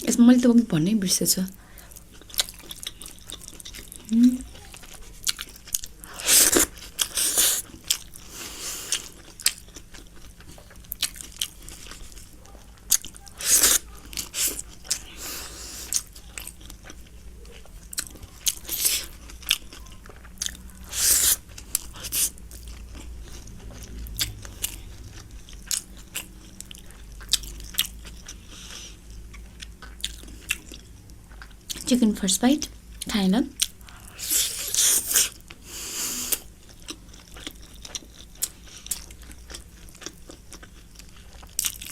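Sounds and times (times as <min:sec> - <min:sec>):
close chewing and biting: 0:01.8 - 0:31.9, 0:33.6 - 0:41.9.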